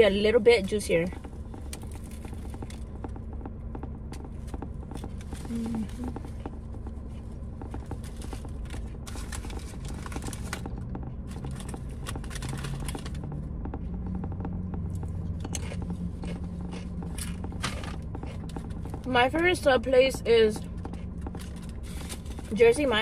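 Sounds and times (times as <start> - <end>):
steady low hum: 0.0 - 23.0
chewing and crunching: 0.7 - 23.0.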